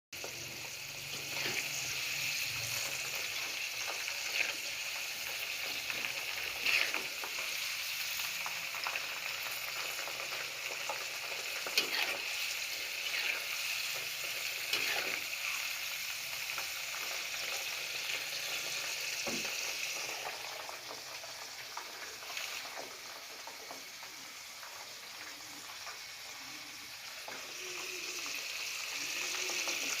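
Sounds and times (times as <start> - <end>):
insects sizzling in hot oil: 0.2 - 30.0.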